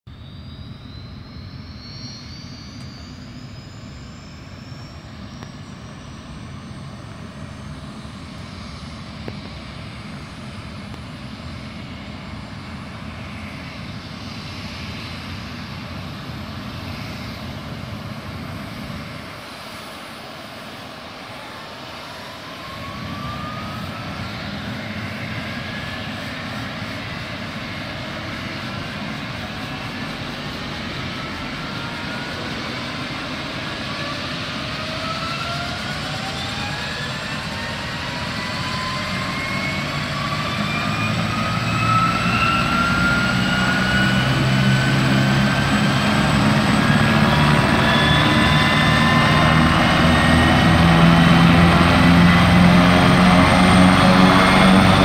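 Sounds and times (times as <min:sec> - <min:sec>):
helicopter turbine and rotor: 0:00.1 - 0:55.0
high turbine whine: 0:00.1 - 0:55.0.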